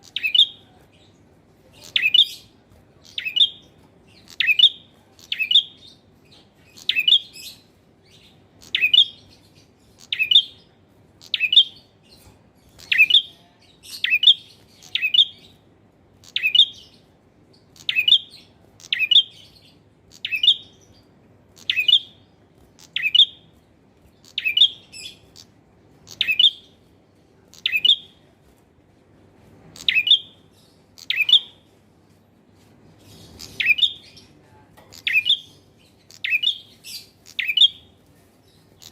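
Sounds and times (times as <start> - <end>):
bird singing high chirps: 0.0 - 1.1, 1.8 - 15.6, 16.2 - 23.5, 24.2 - 26.8, 27.5 - 28.2, 29.7 - 31.7, 33.0 - 38.9.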